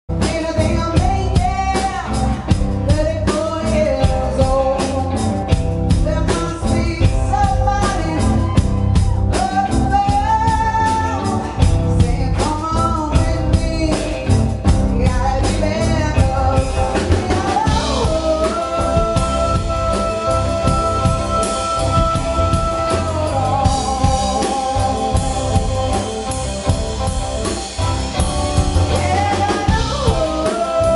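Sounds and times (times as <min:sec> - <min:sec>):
rock band playing: 0:00.0 - 0:30.9
woman singing: 0:00.1 - 0:26.4, 0:28.5 - 0:30.9.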